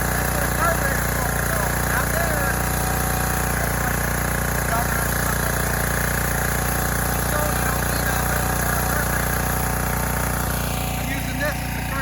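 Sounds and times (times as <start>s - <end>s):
small generator engine running: 0.0s - 12.0s.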